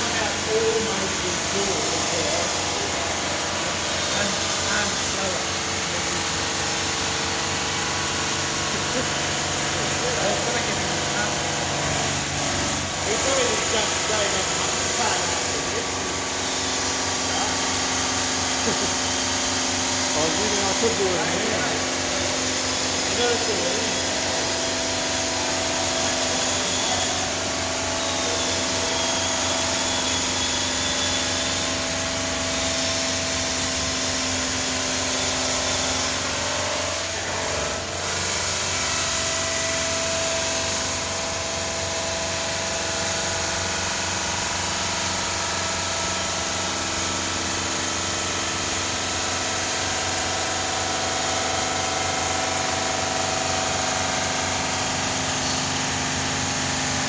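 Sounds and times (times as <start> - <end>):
stone saw whining: 0.0 - 57.0.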